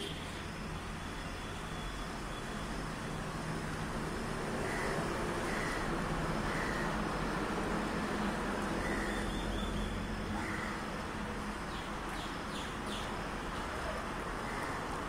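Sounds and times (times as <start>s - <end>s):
street background hum and hiss: 0.0s - 15.0s.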